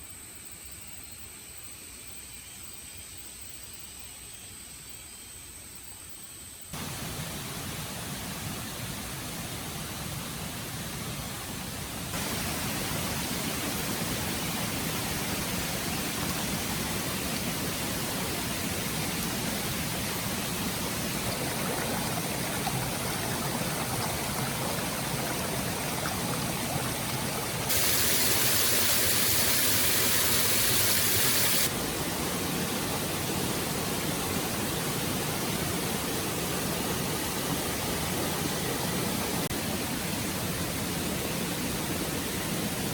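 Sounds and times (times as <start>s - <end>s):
forest stream rushing: 6.8s - 42.9s.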